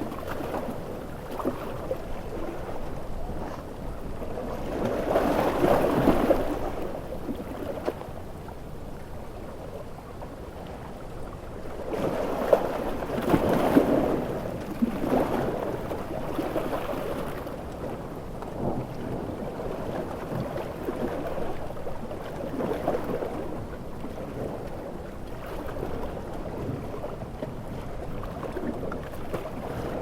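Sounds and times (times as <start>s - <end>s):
sea waves breaking: 0.0s - 9.8s, 11.2s - 30.0s.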